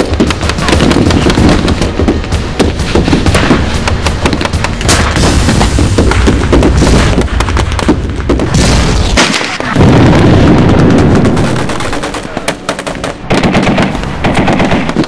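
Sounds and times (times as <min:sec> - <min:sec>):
blank rifle shots: 0:00.0 - 0:15.0
pyrotechnic bangs: 0:00.0 - 0:15.0.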